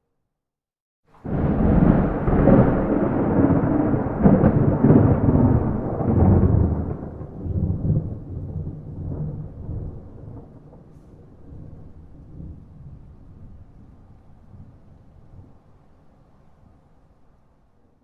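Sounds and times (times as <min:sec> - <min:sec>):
thunder rumbling: 0:01.2 - 0:15.6.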